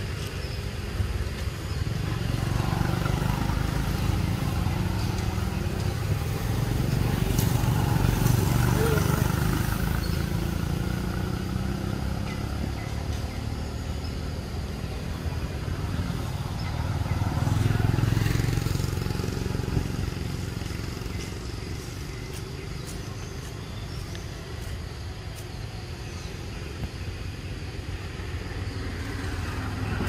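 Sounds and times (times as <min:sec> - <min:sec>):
passing vehicle engine rumble: 0:00.0 - 0:30.0.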